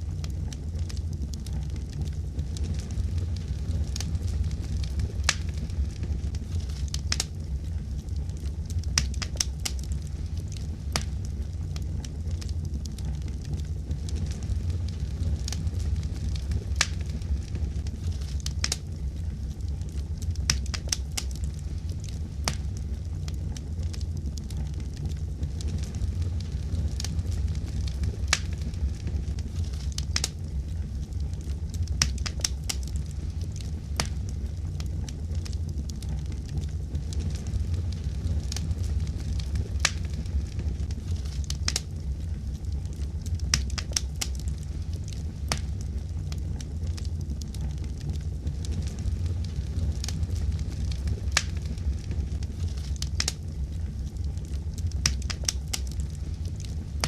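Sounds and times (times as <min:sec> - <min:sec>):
low steady rumble: 0:00.0 - 0:57.0
wood fire crackling and popping: 0:00.0 - 0:57.0.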